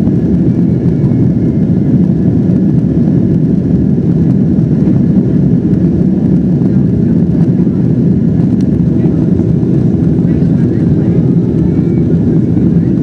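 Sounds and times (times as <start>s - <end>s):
aircraft cabin engine noise: 0.0s - 13.0s.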